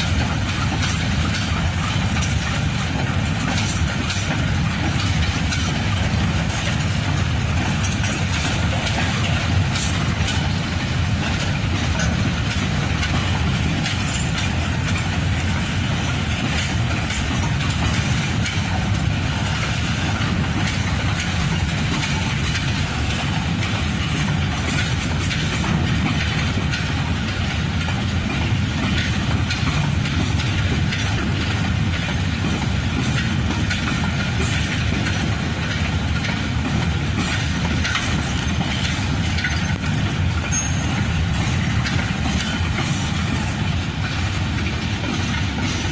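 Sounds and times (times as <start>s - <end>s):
freight train rolling by: 0.0s - 45.9s
wagons clicking and clattering: 0.0s - 45.9s.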